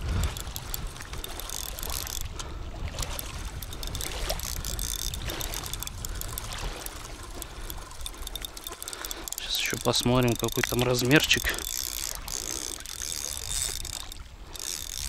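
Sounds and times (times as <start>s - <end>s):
fishing reel clicking: 0.0s - 15.0s
river water: 0.0s - 15.0s
wind rumbling on microphone: 0.0s - 15.0s.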